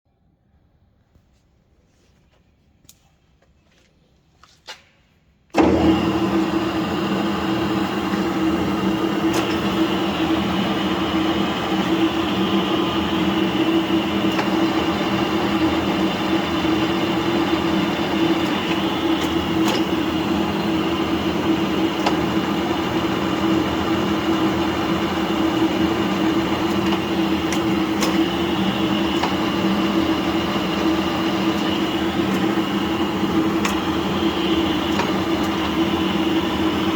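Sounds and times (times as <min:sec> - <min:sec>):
milling machine motor humming: 0:05.6 - 0:36.9.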